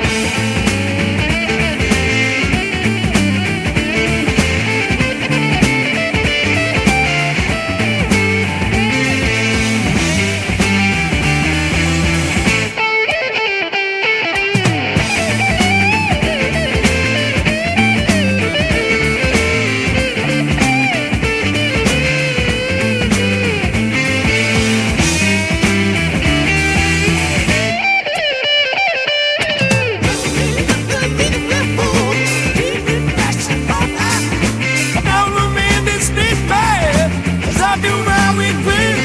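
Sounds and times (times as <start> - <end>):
bass guitar: 0.0 - 13.4, 14.4 - 28.3, 29.4 - 39.0
drums: 0.0 - 13.6, 14.2 - 28.6, 29.4 - 39.0
electric guitar lead: 0.0 - 39.0.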